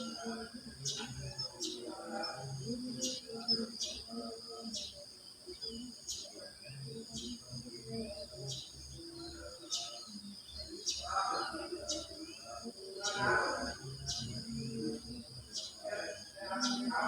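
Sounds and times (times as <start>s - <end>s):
birds calling: 0.0s - 17.0s
crickets trilling: 0.0s - 17.0s.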